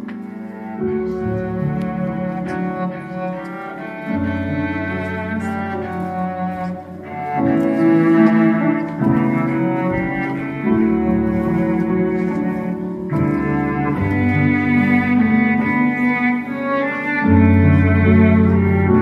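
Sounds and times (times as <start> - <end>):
wind instruments and strings playing: 0.0 - 19.0.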